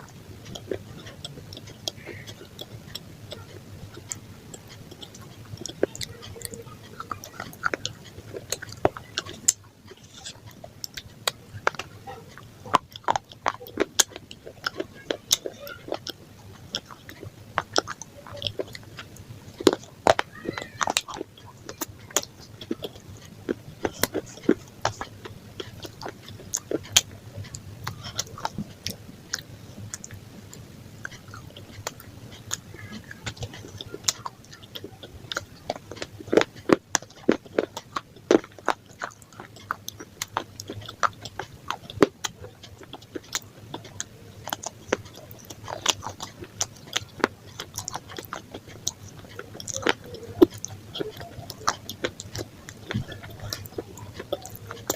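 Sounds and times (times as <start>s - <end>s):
person chewing crisp food: 0.0s - 54.9s
wet mouth sounds: 0.0s - 54.9s.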